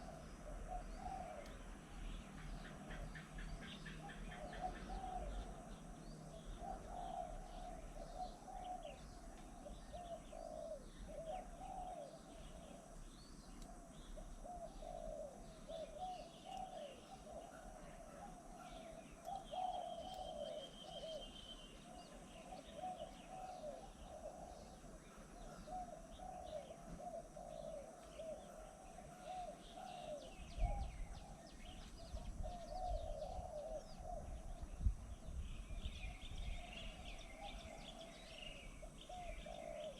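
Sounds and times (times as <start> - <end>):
pigeons cooing: 0.0 - 1.6, 4.0 - 12.9, 13.7 - 34.8, 35.9 - 39.9
small birds chirping: 0.0 - 39.9.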